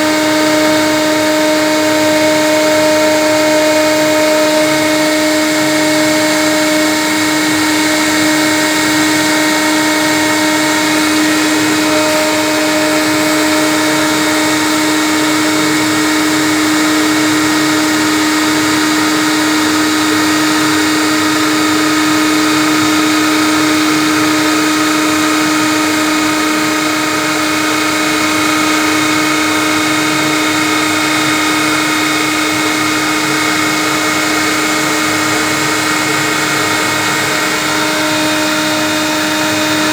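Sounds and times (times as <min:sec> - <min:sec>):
hiss of cutting: 0:00.0 - 0:39.9
router spindle whine: 0:00.0 - 0:39.9.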